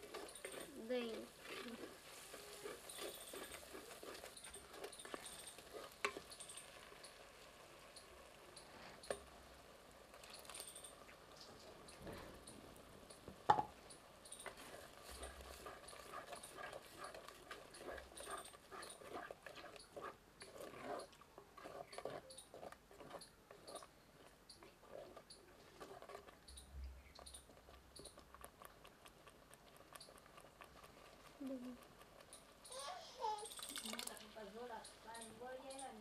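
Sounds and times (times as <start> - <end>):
spatula stirring thick sauce: 0.0 - 36.0
wood fire crackling: 0.0 - 36.0.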